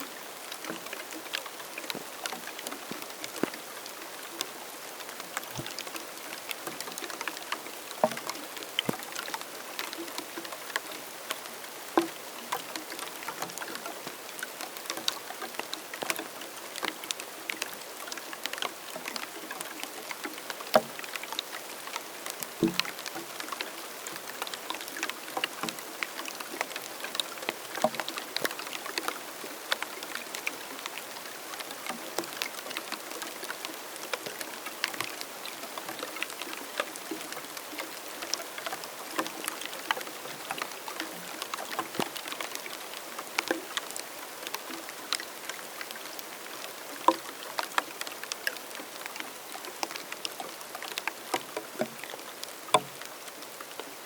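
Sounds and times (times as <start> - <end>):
raindrops pattering: 0.0 - 54.0
soft steady rain hiss: 0.0 - 54.0.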